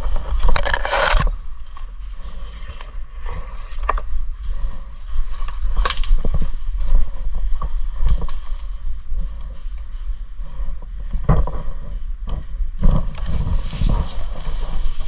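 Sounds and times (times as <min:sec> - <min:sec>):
low rumble of movement: 0:00.0 - 0:15.0.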